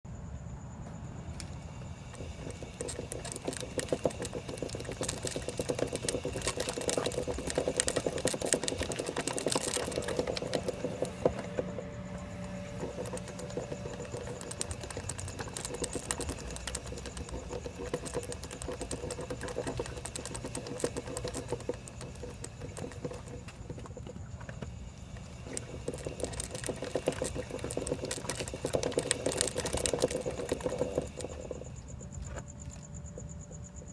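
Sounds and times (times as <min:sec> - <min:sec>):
low steady hum: 0:00.1 - 0:33.9
rapid sprocket clicking: 0:02.1 - 0:24.2, 0:25.2 - 0:31.9.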